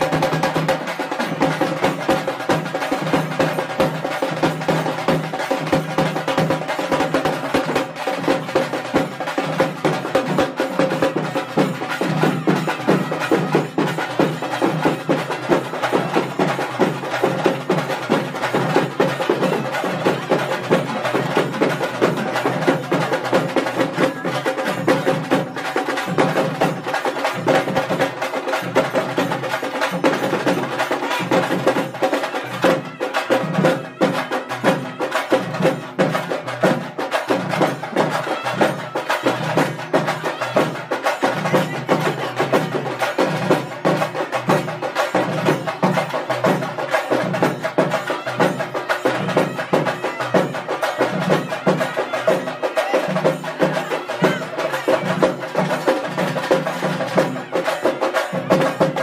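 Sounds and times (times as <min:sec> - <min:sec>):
fast dense drumming: 0:00.0 - 0:59.0
wooden percussion strokes: 0:00.0 - 0:59.0.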